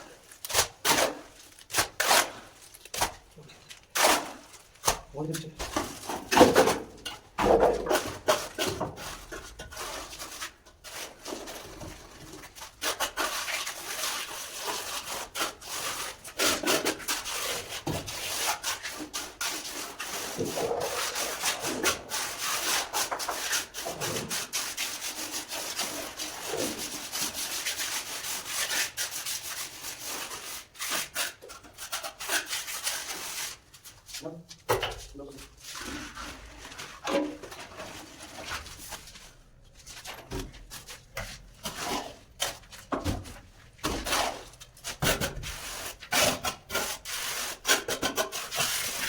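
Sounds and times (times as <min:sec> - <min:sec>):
trowel scraping cement: 0:00.3 - 0:34.2, 0:40.0 - 0:49.0.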